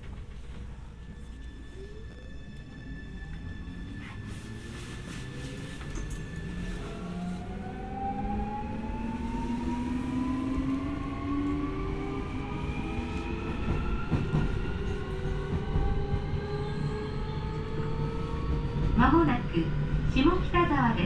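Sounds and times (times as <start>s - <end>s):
wheels rumbling on rail: 2.5s - 20.9s.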